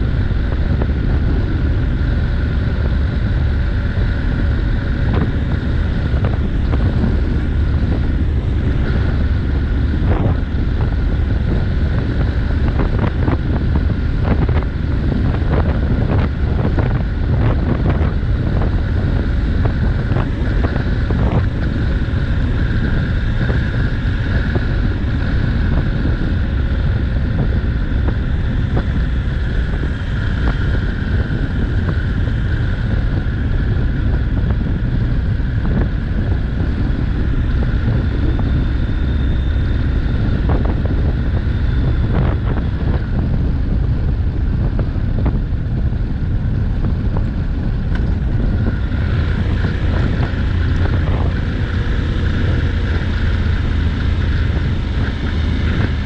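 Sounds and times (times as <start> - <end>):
motorcycle engine droning: 0.0 - 56.0
wind rushing on microphone: 0.0 - 56.0.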